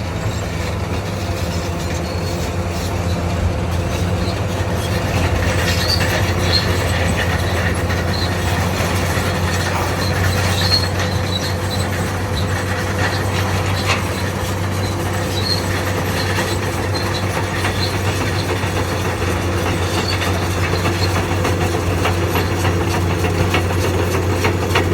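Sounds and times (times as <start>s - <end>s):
bulldozer diesel engine hum: 0.0s - 24.9s
steel tracks clanking and squeaking: 0.0s - 24.9s.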